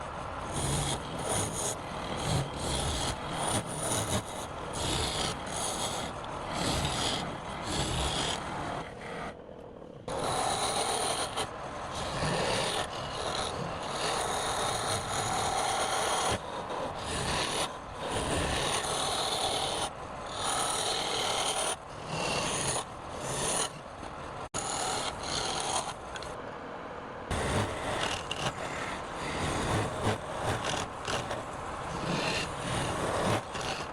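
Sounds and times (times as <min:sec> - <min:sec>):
turning tool shaving spinning wood: 0:00.0 - 0:09.4, 0:10.0 - 0:26.4, 0:27.3 - 0:33.9.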